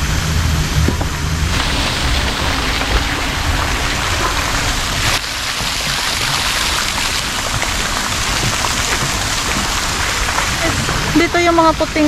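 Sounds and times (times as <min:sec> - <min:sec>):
water gushing from outlet: 0:00.9 - 0:12.0.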